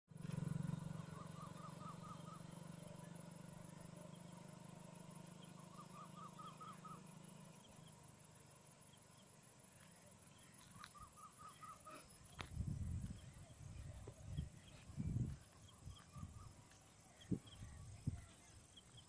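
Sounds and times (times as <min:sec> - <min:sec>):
low steady hum: 0:00.2 - 0:19.0
bird chirping: 0:01.0 - 0:19.0.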